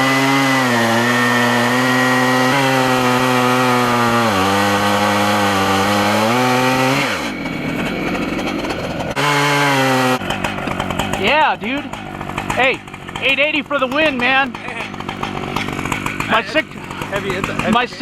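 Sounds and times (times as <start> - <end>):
chainsaw ripping through wood: 0.0 - 18.0.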